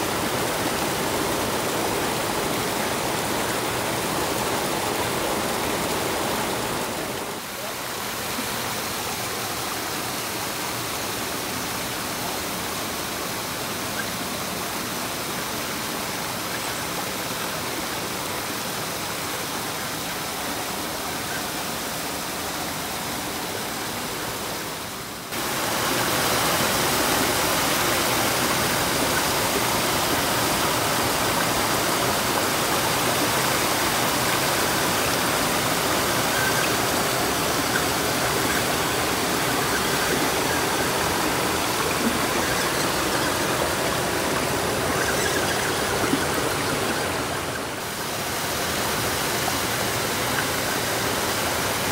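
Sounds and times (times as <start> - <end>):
rushing river water: 0.0 - 51.9.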